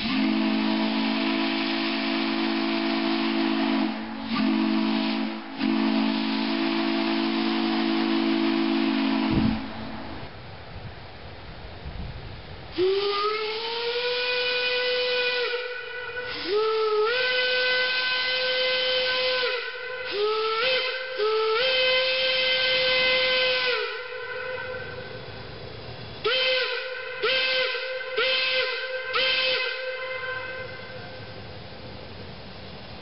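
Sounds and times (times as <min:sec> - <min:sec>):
steam locomotive whistle blasts: 0:00.0 - 0:10.2, 0:12.7 - 0:25.3, 0:26.2 - 0:31.4
steam hissing: 0:00.0 - 0:10.3, 0:12.6 - 0:33.0.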